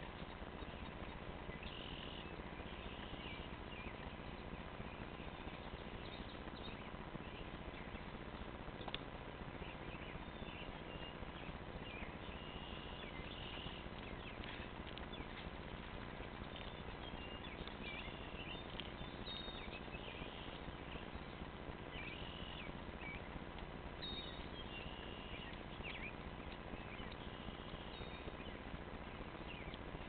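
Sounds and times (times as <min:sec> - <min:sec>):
birds chirping: 0:00.0 - 0:30.0
steady outdoor hiss: 0:00.0 - 0:30.0.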